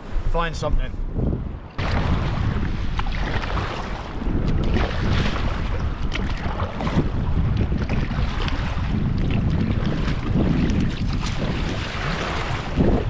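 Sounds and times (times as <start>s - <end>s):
wind buffeting microphone: 0.0s - 13.0s
water lapping around kayak: 1.1s - 13.0s
short splashes: 1.8s - 13.0s.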